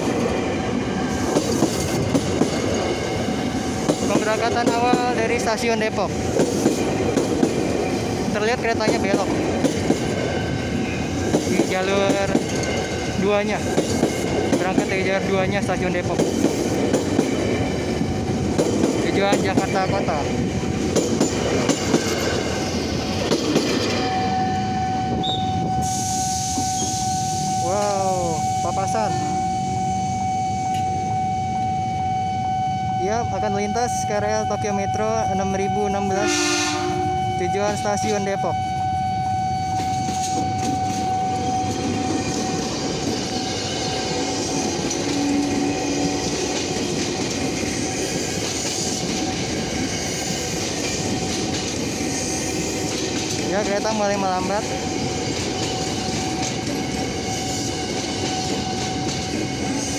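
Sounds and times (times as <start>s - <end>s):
steady high tone: 0.0s - 16.2s, 21.7s - 59.9s
train wheels rumbling and knocking: 0.0s - 28.2s, 39.7s - 59.9s.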